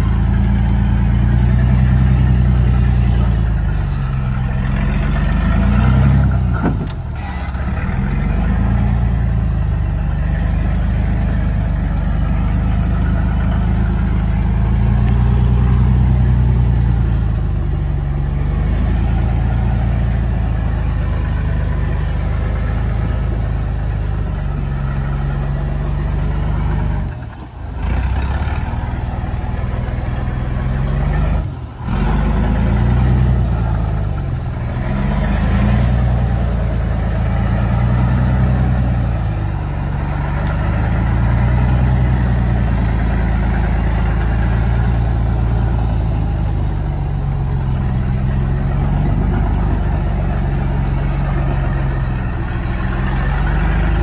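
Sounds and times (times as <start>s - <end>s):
truck engine labouring: 0.0s - 54.0s.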